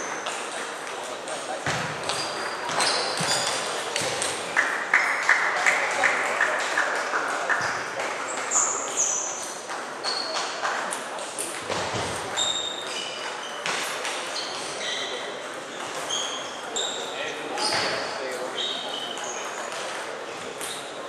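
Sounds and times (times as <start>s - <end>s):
murmur of voices: 0.0s - 21.0s.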